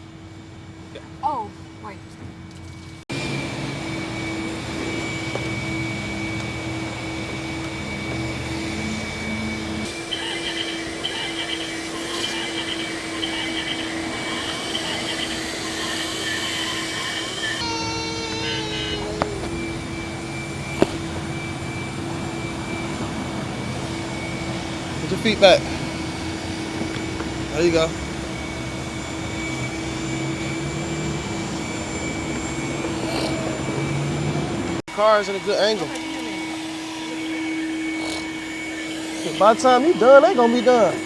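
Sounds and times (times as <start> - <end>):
car wash machinery drone: 0.0 - 41.0.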